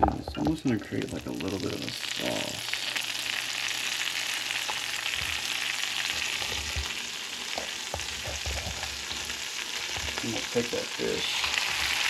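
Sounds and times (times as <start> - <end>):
butter sizzling in frying pan: 0.2 - 12.0.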